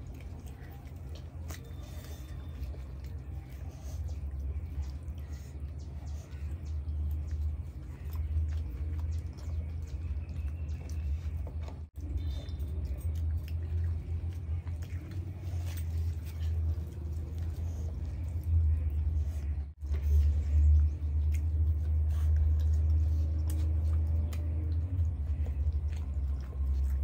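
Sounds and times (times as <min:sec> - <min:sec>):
low hum: 0:00.0 - 0:27.0
people chewing: 0:00.0 - 0:27.0.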